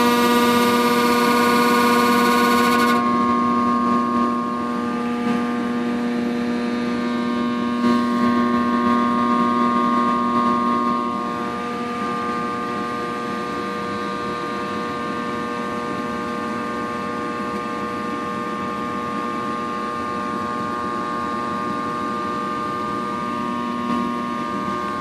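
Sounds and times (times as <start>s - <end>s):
furnace blower humming: 0.0s - 25.0s.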